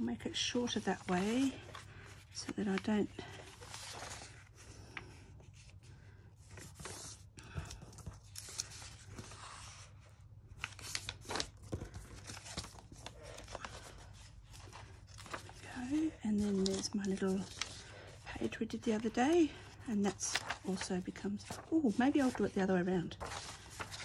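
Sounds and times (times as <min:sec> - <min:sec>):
paper rustling and crinkling: 0:00.0 - 0:24.0.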